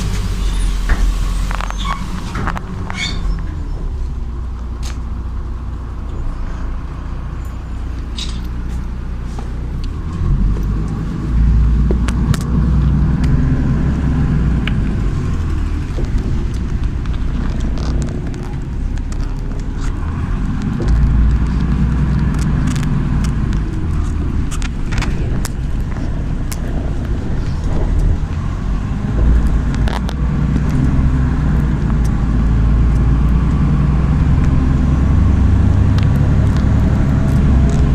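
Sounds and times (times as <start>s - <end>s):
bus diesel engine rumble: 0.0s - 37.9s.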